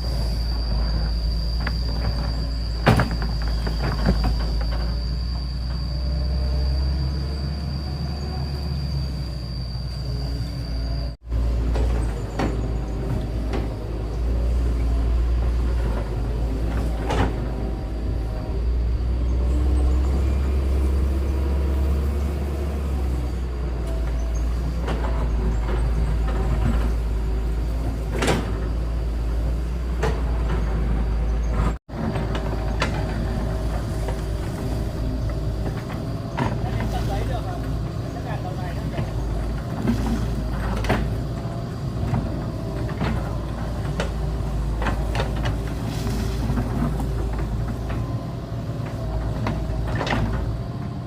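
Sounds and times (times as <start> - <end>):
diesel engine rumbling: 0.0 - 51.0.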